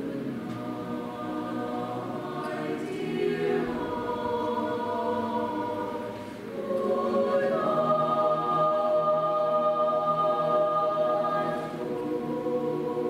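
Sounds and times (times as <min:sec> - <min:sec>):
mixed choir singing: 0:00.0 - 0:13.0.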